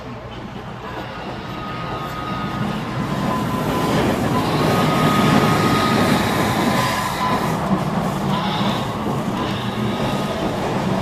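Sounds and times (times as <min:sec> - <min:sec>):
model train rumbling on track: 0:00.0 - 0:11.0.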